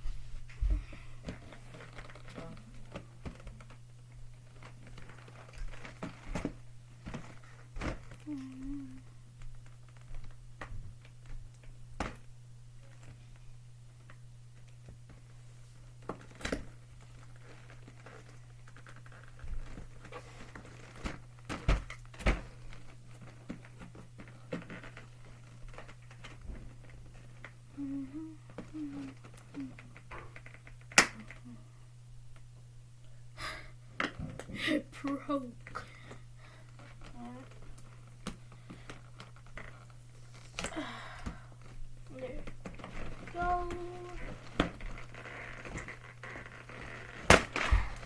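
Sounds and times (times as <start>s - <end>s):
steady low hum: 0.0s - 48.0s
packaging rustling: 1.2s - 12.2s, 14.0s - 31.4s, 35.6s - 48.0s.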